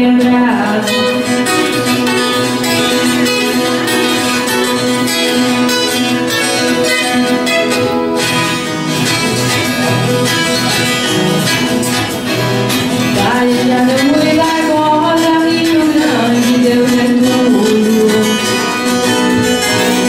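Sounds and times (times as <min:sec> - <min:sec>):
folk guitars playing together: 0:00.0 - 0:20.0.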